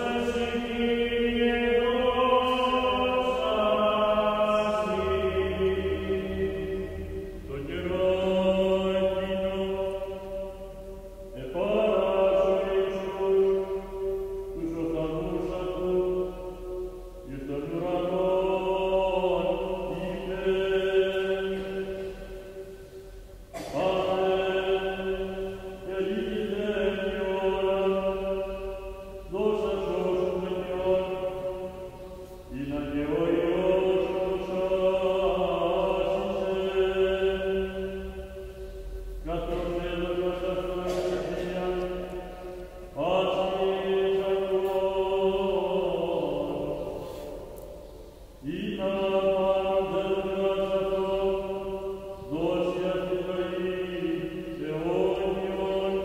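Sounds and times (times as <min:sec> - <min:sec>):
slow chanted vocal music: 0:00.0 - 0:56.0.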